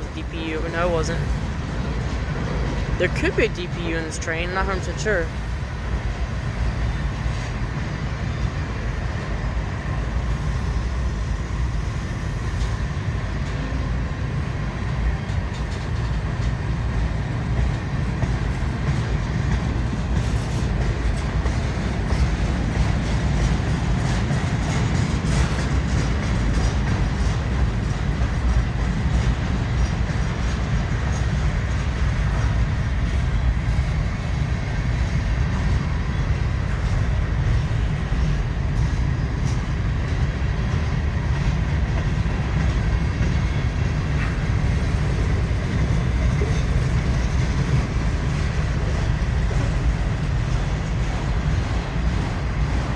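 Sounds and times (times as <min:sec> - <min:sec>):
freight train rumbling: 0:00.0 - 0:52.9
wheels clicking over rail joints: 0:00.0 - 0:52.9.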